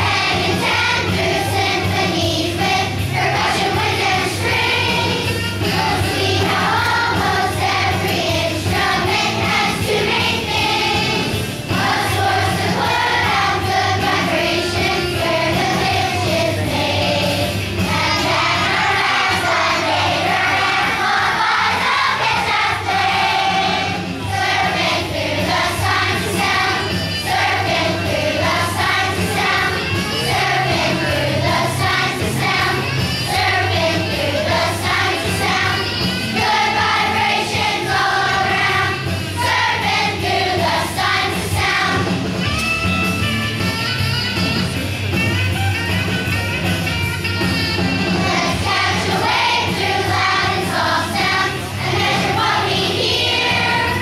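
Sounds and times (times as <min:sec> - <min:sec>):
children's choir singing: 0:00.0 - 0:42.3, 0:48.0 - 0:54.0
instrumental accompaniment with beat: 0:00.0 - 0:54.0.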